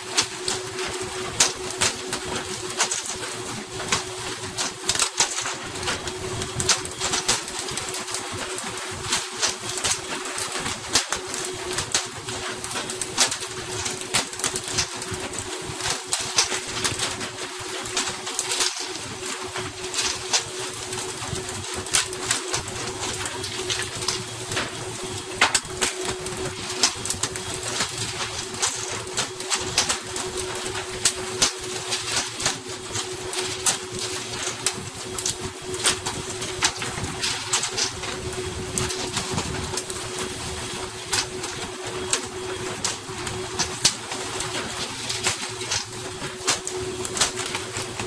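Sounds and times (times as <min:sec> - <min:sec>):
mechanical hum: 0:00.0 - 0:48.0.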